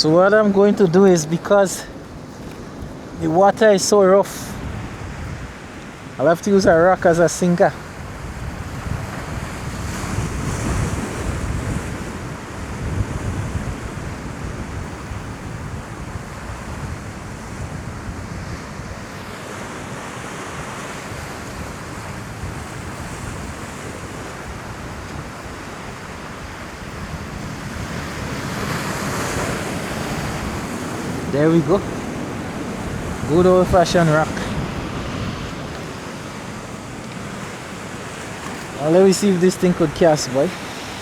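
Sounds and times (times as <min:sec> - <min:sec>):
surf breaking against rocks: 0:00.0 - 0:41.0
wind buffeting microphone: 0:00.0 - 0:41.0.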